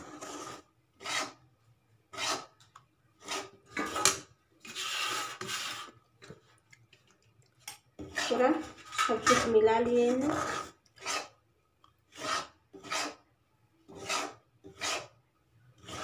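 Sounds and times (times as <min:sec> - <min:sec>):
steel spatula scraping dough: 0:00.0 - 0:01.5, 0:02.1 - 0:06.4, 0:08.0 - 0:11.4, 0:12.1 - 0:16.0.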